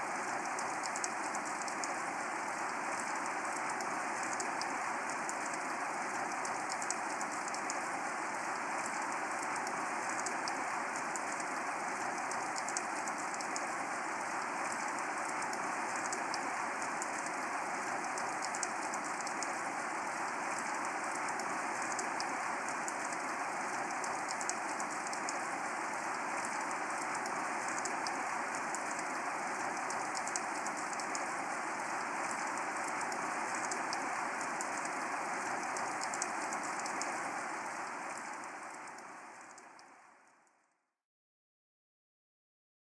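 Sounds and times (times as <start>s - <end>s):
steady rain falling: 0.0s - 40.2s.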